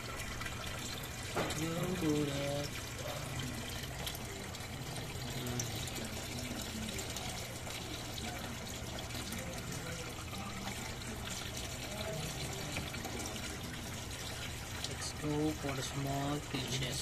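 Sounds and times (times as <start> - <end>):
water trickling in tank: 0.0 - 17.0.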